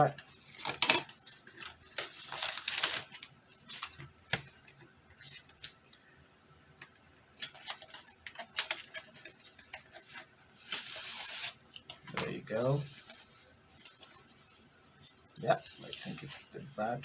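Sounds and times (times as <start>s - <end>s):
packaging rustling and crinkling: 0.0s - 5.7s, 7.4s - 17.0s.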